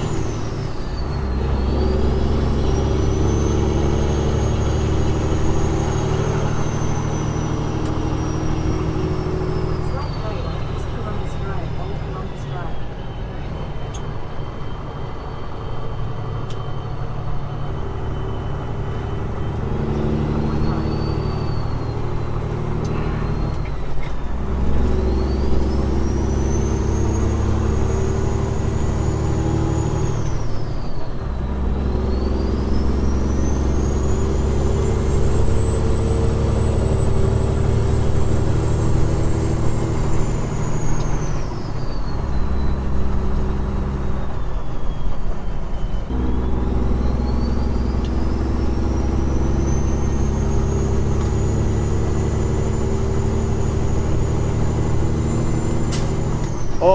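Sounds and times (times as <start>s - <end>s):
diesel truck engine pulling: 0.0s - 56.9s.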